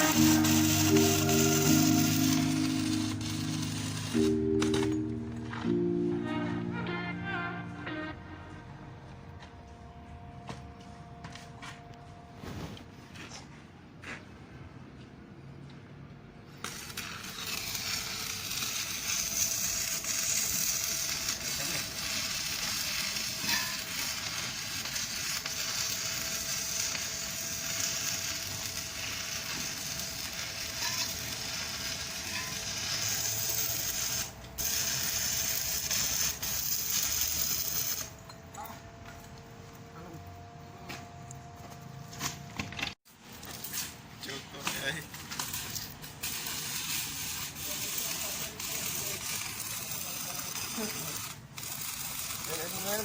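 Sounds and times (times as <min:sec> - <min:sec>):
arc welding crackle and sizzle: 0:00.0 - 0:08.1, 0:16.4 - 0:40.7, 0:41.3 - 0:53.0.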